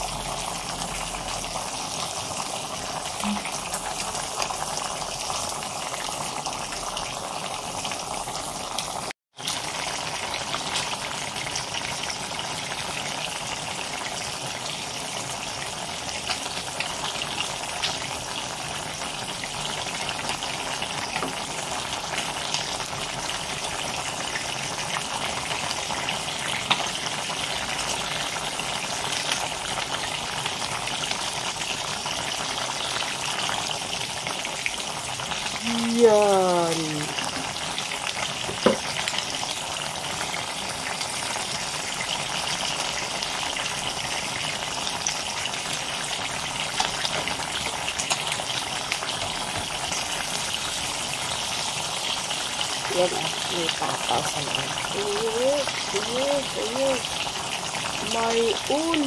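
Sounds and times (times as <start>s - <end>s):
broth boiling with sizzling hiss: 0.0s - 59.0s.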